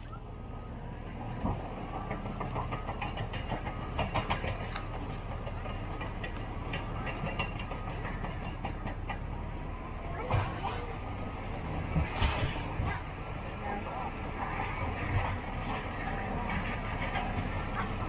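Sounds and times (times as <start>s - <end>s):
distant bulldozer diesel rumble: 0.0s - 18.0s.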